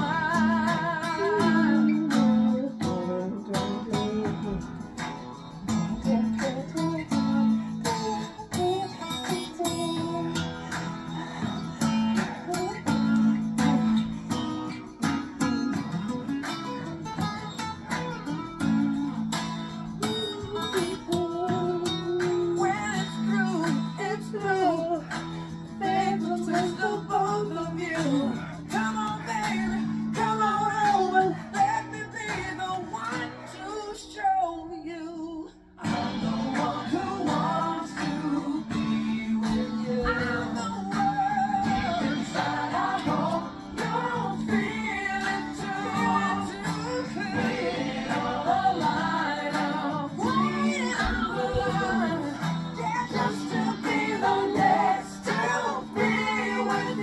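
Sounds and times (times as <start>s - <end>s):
song with vocals and beat: 0.0s - 57.0s.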